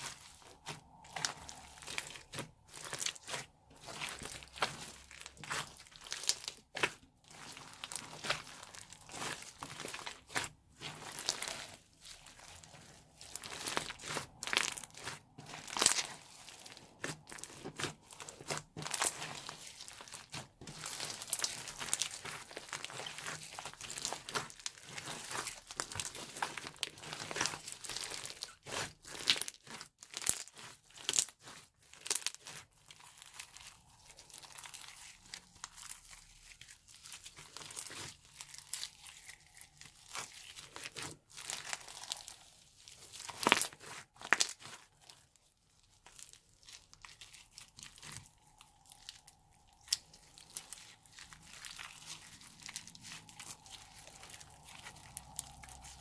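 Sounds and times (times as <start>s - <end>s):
slime squishing and crackling: 0.0s - 56.0s.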